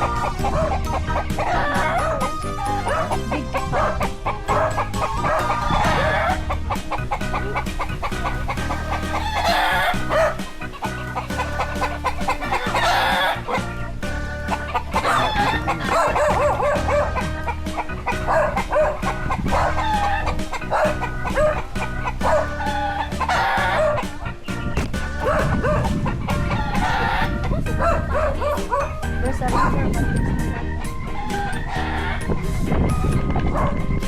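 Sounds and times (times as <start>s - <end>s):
rooster crowing: 0.0s - 13.6s, 14.7s - 24.1s, 26.5s - 32.6s
chickens clucking: 0.0s - 34.0s
music with steady beat: 0.0s - 34.0s.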